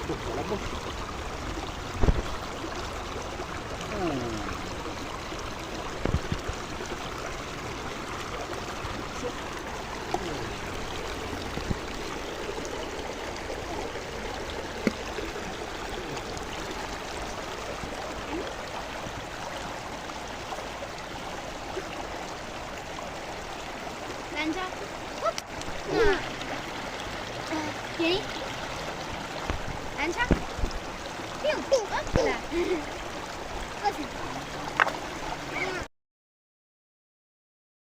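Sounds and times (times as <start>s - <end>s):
flowing water rushing: 0.0s - 35.9s.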